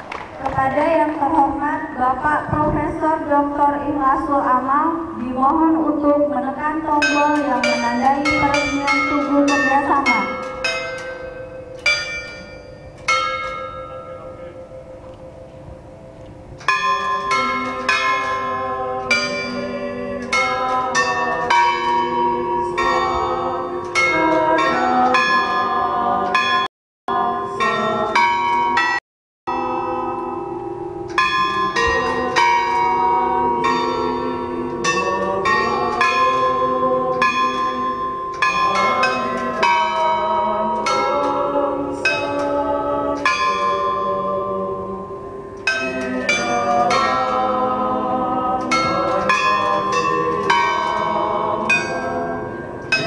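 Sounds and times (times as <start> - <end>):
bells ringing a tune: 6.9 - 53.0.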